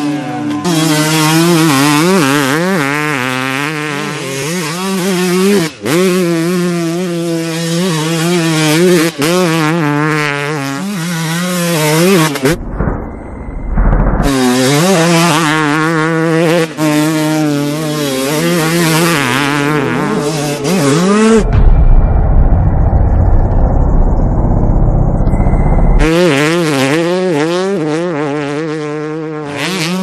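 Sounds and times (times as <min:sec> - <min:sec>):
dirt bike engine revving: 0:00.0 - 0:12.6, 0:14.1 - 0:21.7, 0:24.3 - 0:30.0.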